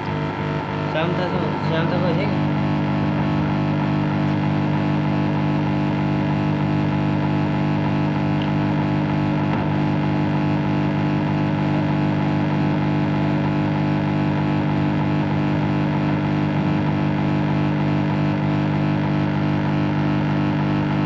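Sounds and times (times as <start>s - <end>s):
electrical buzz: 0.0s - 21.0s.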